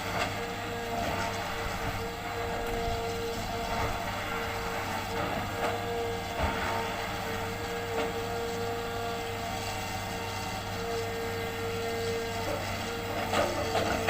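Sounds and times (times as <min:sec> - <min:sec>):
constant whining tone: 0:00.0 - 0:14.0
excavator engine running: 0:00.0 - 0:14.0.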